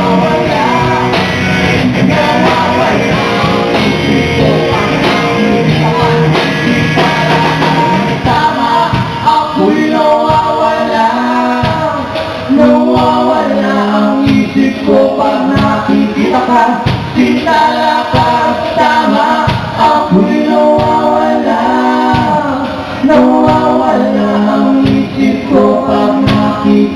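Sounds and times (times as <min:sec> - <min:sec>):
live band playing: 0:00.0 - 0:26.9
person singing: 0:00.0 - 0:26.9.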